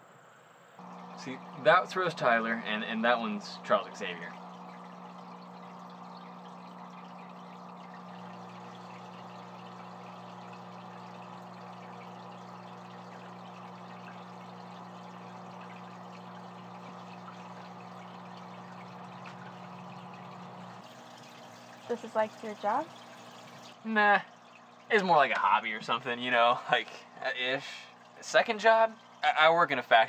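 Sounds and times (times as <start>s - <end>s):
pump electrical hum: 0.0s - 30.0s
water trickling and bubbling: 0.8s - 30.0s.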